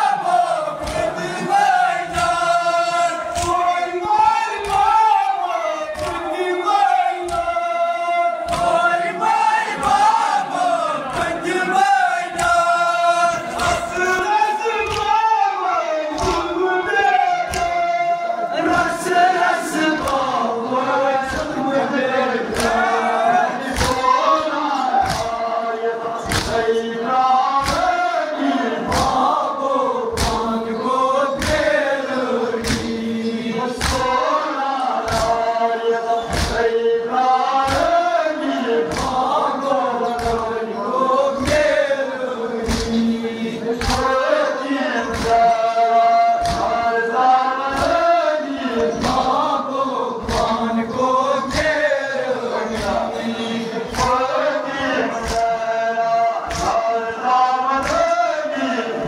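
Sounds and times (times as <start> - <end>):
crowd of men chanting: 0.0 - 59.0.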